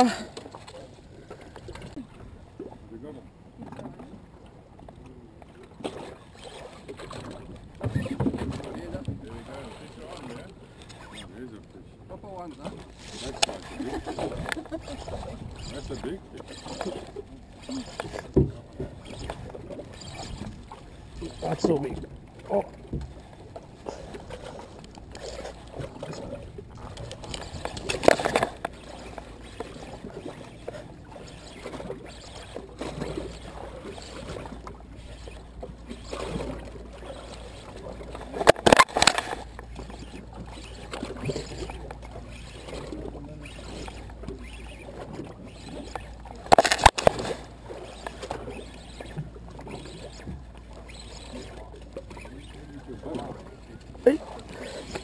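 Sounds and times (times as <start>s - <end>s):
water sloshing against boat hull: 0.0s - 55.0s.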